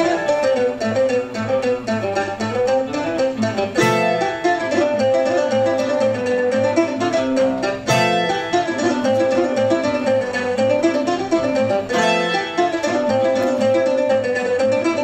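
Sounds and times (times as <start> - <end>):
acoustic guitar accompaniment: 0.0 - 15.0
picked mandolin melody: 0.0 - 15.0.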